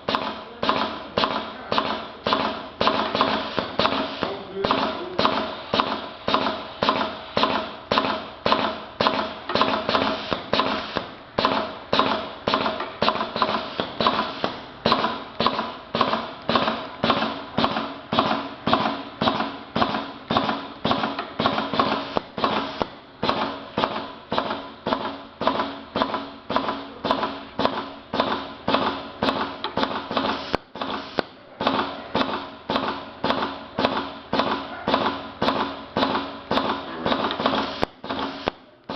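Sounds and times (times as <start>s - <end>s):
cutting machine blade striking: 0.0s - 38.6s.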